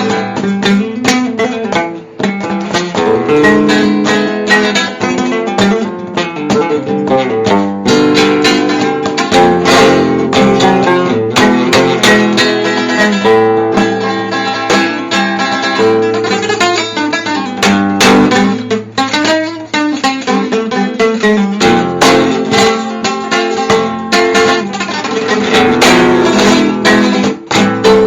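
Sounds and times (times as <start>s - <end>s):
acoustic guitar instrumental: 0.0s - 28.0s
strummed guitar chord: 0.0s - 28.0s.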